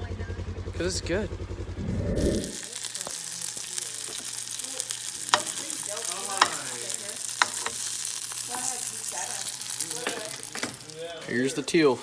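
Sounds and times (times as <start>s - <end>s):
meat sizzling in a frying pan: 2.2s - 12.0s.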